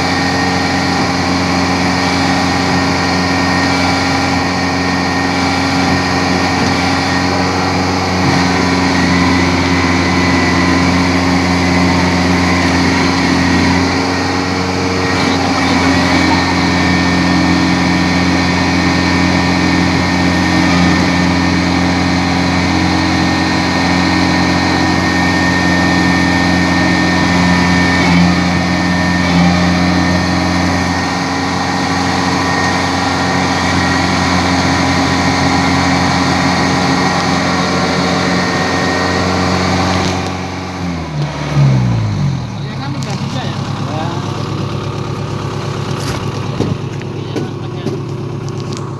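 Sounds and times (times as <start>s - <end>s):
combine harvester diesel engine: 0.0s - 48.9s.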